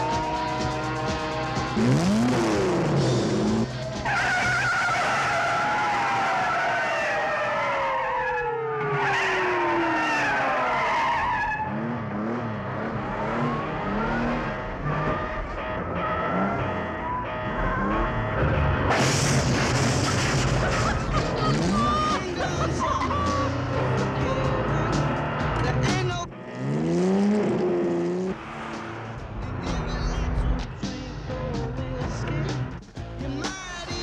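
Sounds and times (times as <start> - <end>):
background music: 0.0 - 6.3, 12.9 - 34.0
car engines running hard: 0.0 - 33.2.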